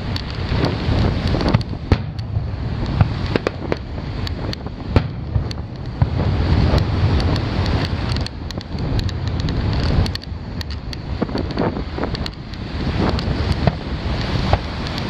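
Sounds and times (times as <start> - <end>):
fireworks popping and crackling: 0.0 - 15.0
wind rumble on microphone: 0.0 - 15.0.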